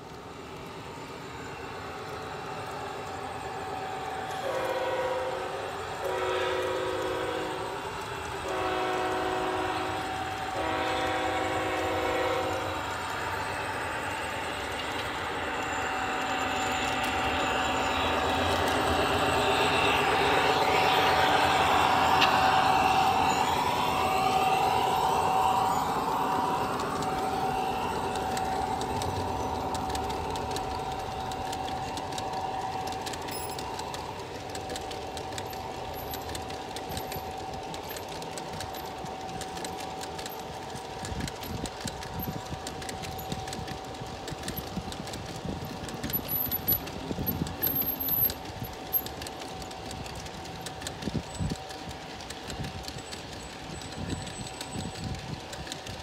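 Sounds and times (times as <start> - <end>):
model locomotive whine: 0.0 - 56.0
model train wheels clattering: 0.0 - 56.0.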